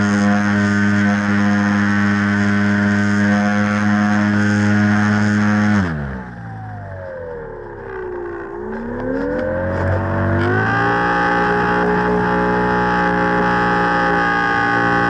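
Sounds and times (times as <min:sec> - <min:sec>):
model airplane motor and propeller: 0:00.0 - 0:15.0.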